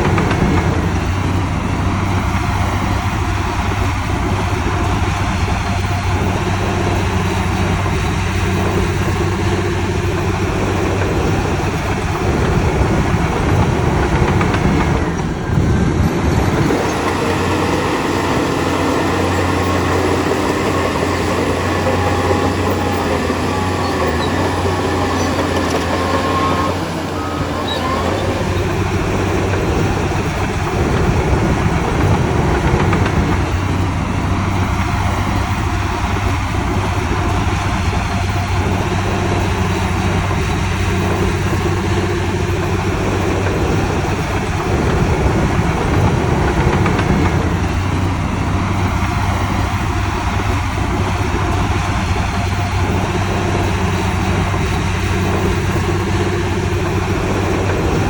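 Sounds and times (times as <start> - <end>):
clatter of machines working: 0.0 - 58.0
heavy machinery diesel engines: 0.0 - 58.0.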